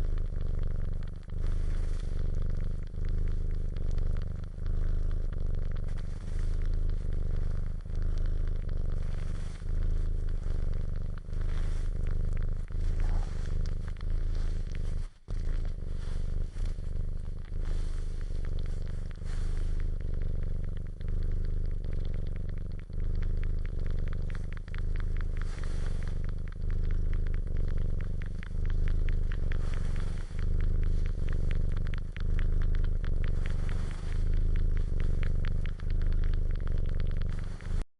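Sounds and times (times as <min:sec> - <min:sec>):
wet suckling clicks: 0:00.0 - 0:37.8
cat purring: 0:00.0 - 0:37.9.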